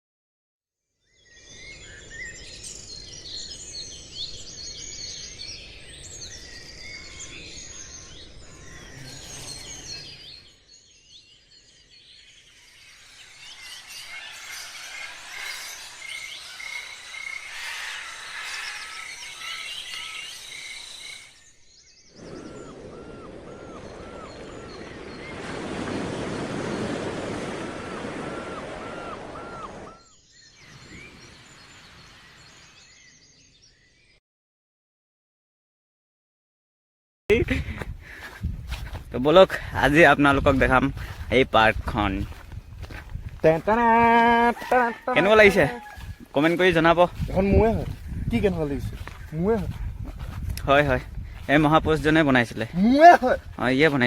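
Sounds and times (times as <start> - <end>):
birds singing and calling: 1.0 - 34.2, 37.3 - 54.0.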